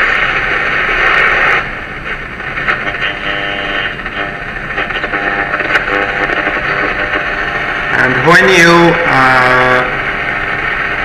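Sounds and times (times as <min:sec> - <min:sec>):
faint radio station: 0:00.0 - 0:11.0
radio static hiss: 0:00.0 - 0:11.0.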